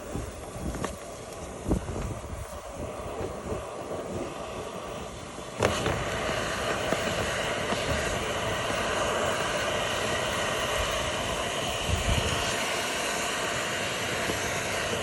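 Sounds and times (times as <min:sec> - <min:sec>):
steady rushing blower noise: 0:00.0 - 0:15.0.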